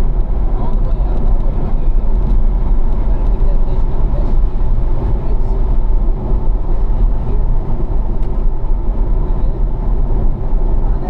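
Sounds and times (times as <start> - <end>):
car engine rumble: 0.0 - 11.0
road noise inside car: 0.0 - 11.0.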